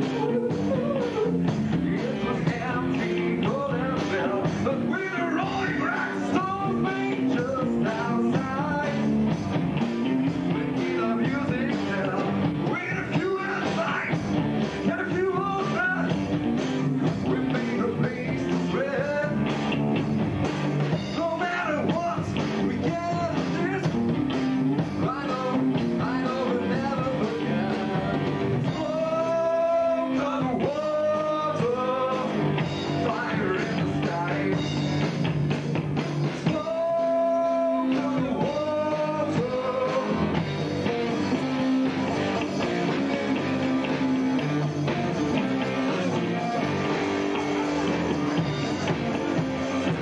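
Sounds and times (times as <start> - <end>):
man singing: 0.0 - 9.3, 10.2 - 19.6, 21.0 - 35.1, 36.4 - 50.0
rock band playing: 0.0 - 50.0.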